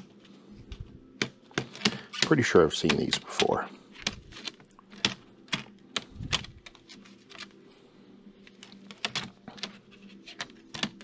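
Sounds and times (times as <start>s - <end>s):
vinyl records clacking: 1.2s - 7.5s, 8.5s - 11.0s.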